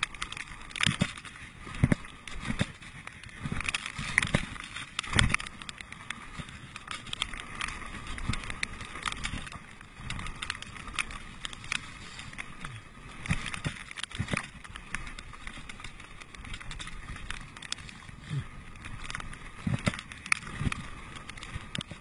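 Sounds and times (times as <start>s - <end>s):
bike rattling: 0.0s - 22.0s.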